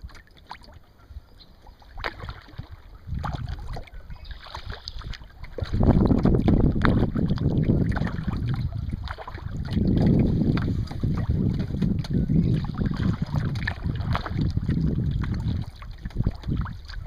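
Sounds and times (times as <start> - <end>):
water splashing and dripping: 0.0 - 1.0, 1.6 - 17.0
wind rumbling on microphone: 2.0 - 17.0.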